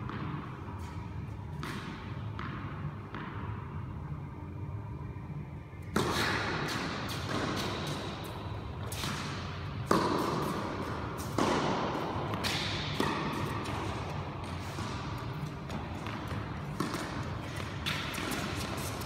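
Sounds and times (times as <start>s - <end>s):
racket hitting tennis ball: 0.0s - 3.8s, 5.9s - 19.0s
tennis ball bouncing: 0.0s - 4.0s, 5.9s - 19.0s.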